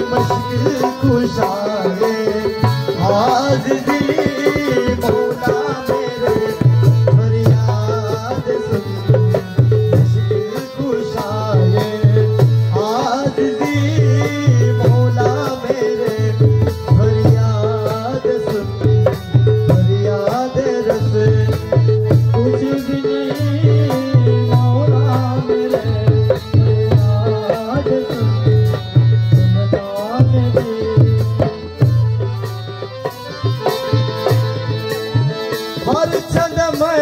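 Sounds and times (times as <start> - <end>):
harmonium melody: 0.0 - 37.0.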